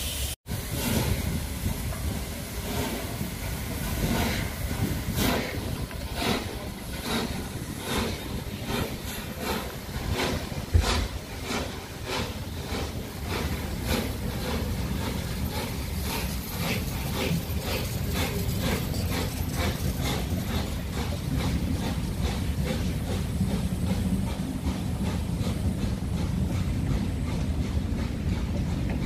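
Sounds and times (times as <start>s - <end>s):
steam locomotive exhaust beats: 0.0s - 29.0s
train rumble: 0.0s - 29.0s.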